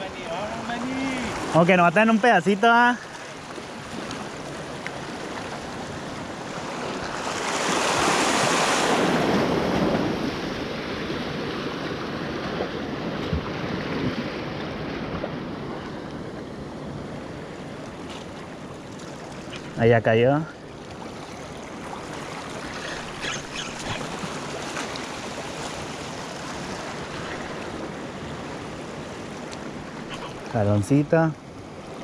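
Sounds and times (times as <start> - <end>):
sea waves washing against rocks: 0.0 - 18.0, 21.0 - 32.0.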